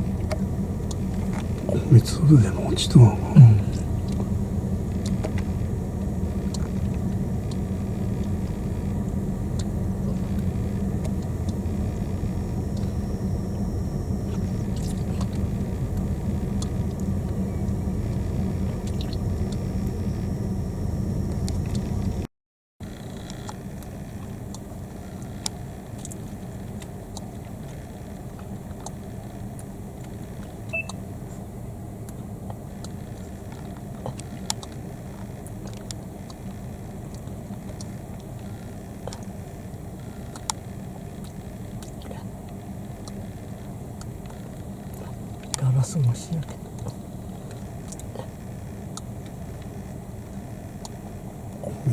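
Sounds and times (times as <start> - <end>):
car engine idling: 0.0 - 22.2, 22.9 - 51.9.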